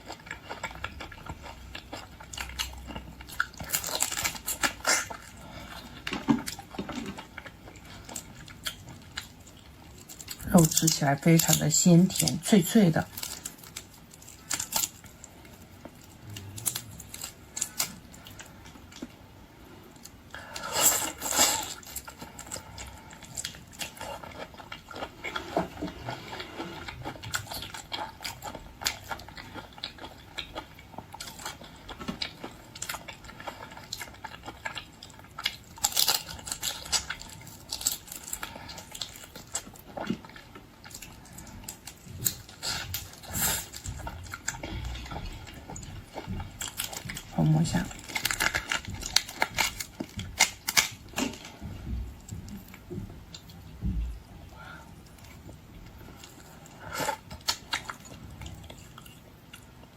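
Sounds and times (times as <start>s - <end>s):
person eating wet chewing: 0.0s - 12.4s, 13.0s - 59.9s.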